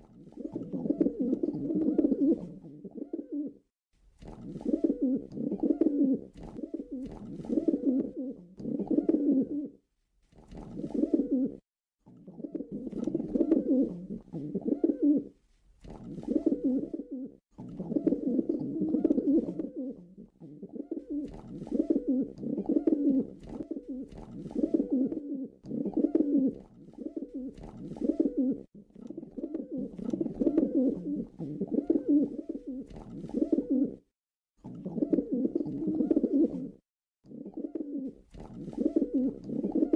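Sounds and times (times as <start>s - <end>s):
pigeon cooing: 0.0s - 3.6s, 4.3s - 9.8s, 10.5s - 11.6s, 12.2s - 34.0s, 34.6s - 39.9s.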